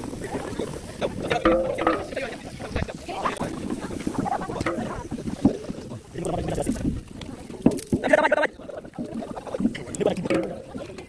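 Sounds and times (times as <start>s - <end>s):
paddle scraping metal pot: 0.0s - 11.0s
people talking: 0.2s - 6.9s, 8.0s - 11.0s.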